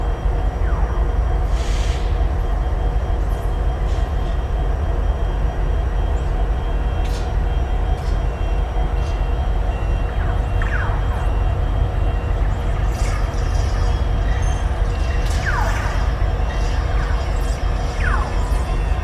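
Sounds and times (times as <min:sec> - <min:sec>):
train machinery rumble: 0:00.0 - 0:19.0.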